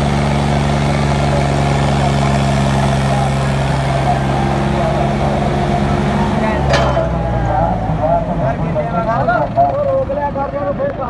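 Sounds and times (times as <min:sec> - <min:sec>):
tractor engine running under load: 0:00.0 - 0:11.0.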